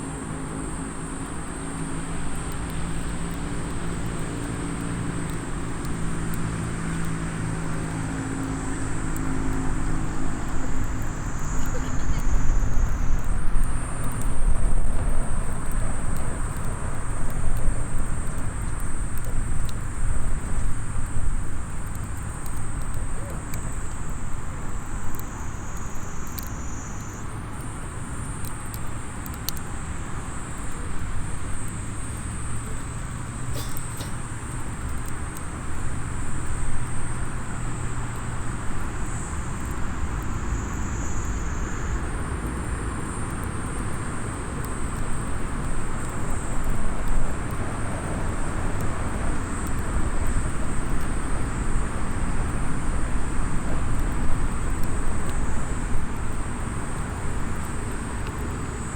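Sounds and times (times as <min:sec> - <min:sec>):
campfire crackling and popping: 0:00.0 - 0:58.9
low outdoor rumble: 0:00.0 - 0:58.9.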